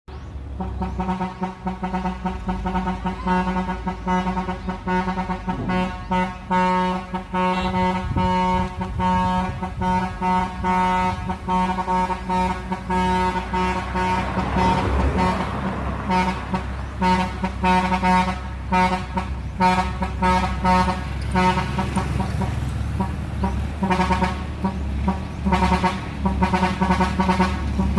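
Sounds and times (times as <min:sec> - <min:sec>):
truck engine rumble: 0:00.1 - 0:27.9
truck air horn blasts: 0:00.5 - 0:27.9.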